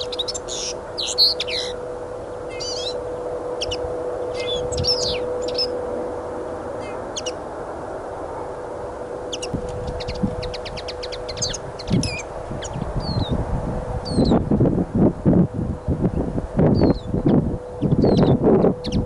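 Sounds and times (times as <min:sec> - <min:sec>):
songbirds chirping: 0:00.0 - 0:13.4, 0:15.8 - 0:19.0
low hum: 0:00.0 - 0:19.0
wind buffeting microphone: 0:00.0 - 0:19.0.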